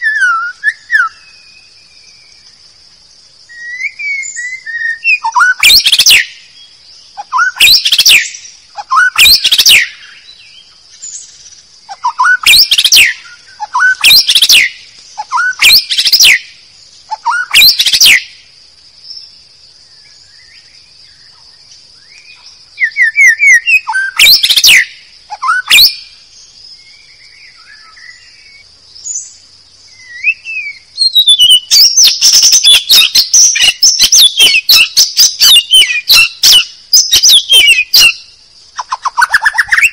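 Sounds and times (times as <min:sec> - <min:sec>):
bird calls: 0:00.0 - 0:02.7, 0:03.4 - 0:18.5, 0:19.1 - 0:39.9.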